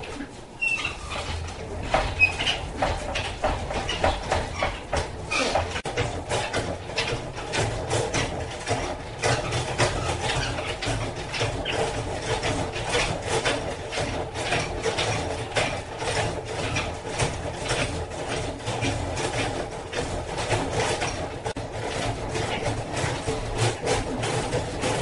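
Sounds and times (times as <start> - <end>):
gears clicking and rattling: 0.0 - 25.0
honey extractor humming: 0.0 - 25.0.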